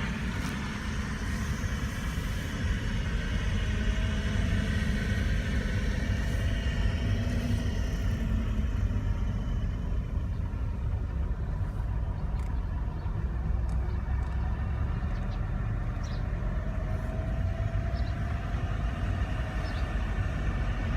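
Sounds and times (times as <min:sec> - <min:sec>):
car engine and road noise: 0:00.0 - 0:20.9.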